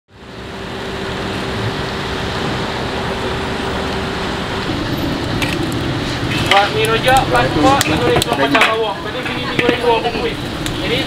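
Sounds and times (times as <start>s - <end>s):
traffic noise: 0.1s - 11.0s.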